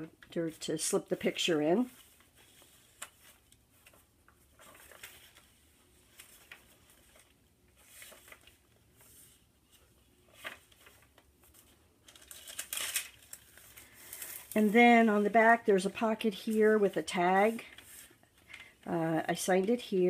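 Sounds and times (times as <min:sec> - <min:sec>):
paper pages rustling: 0:01.0 - 0:20.0.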